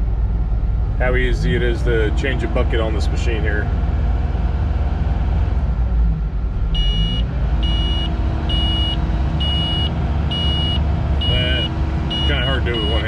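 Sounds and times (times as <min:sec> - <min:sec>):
excavator diesel engine running: 0:00.0 - 0:05.4, 0:06.8 - 0:13.0.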